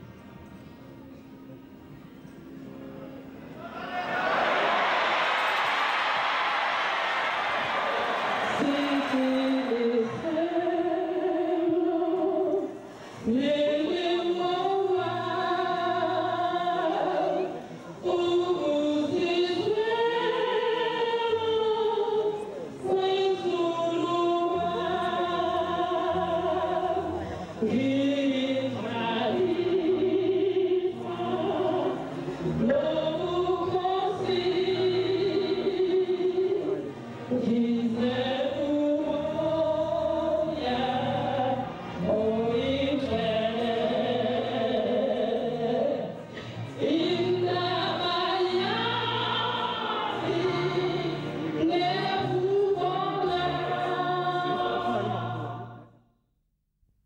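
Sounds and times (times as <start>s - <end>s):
choir singing a slow hymn: 4.1s - 55.9s.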